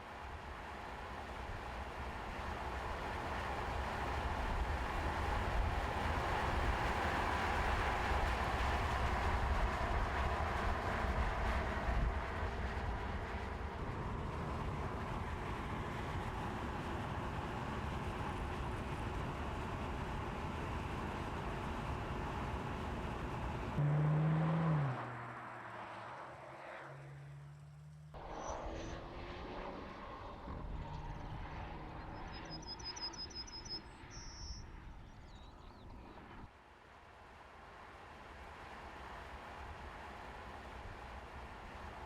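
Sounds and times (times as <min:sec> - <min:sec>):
car engine: 0:00.0 - 0:34.0
road noise: 0:00.0 - 0:42.0.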